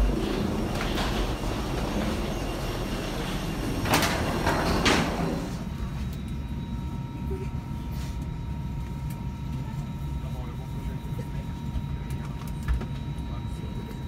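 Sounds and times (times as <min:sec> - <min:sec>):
aircraft cabin hum: 0:00.0 - 0:14.0
airport ground rumble: 0:00.0 - 0:14.0.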